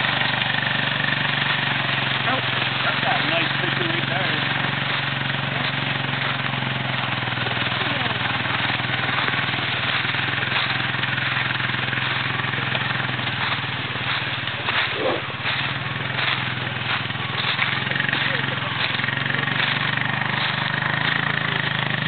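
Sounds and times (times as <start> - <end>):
carcass dragging over dry leaves: 0.0 - 22.0
quad bike engine running: 0.0 - 22.0.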